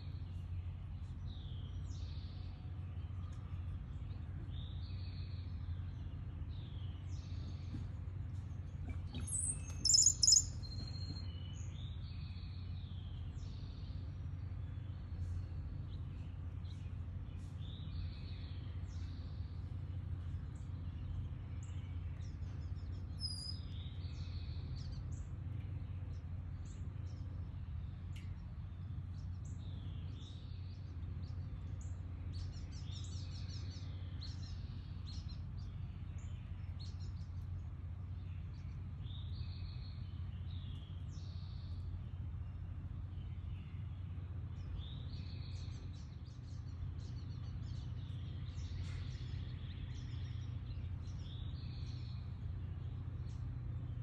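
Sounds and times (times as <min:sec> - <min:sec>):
songbirds chirping and singing: 0:00.0 - 0:54.0
steady low background hum: 0:00.0 - 0:54.0.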